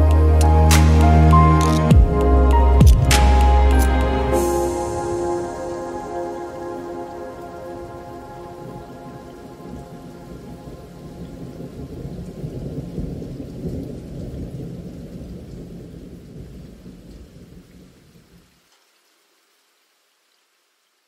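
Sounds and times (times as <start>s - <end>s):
thunder rumbling: 0.0s - 17.7s
steady rain: 0.0s - 21.0s.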